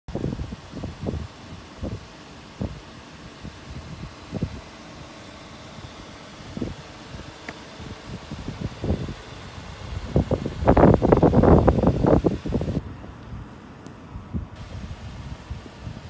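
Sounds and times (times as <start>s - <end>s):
wind buffeting microphone: 0.1s - 13.5s, 14.1s - 16.0s.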